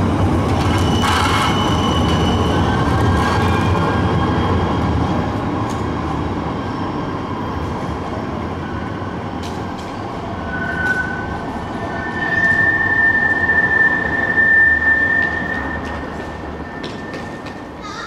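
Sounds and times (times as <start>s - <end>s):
tram rolling rumble: 0.0s - 18.0s
tram wheels squealing on rails: 0.0s - 18.0s.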